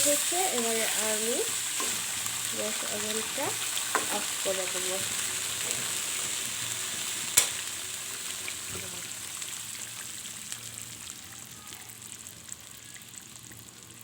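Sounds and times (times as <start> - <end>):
curry sizzling in a pan: 0.0 - 14.0.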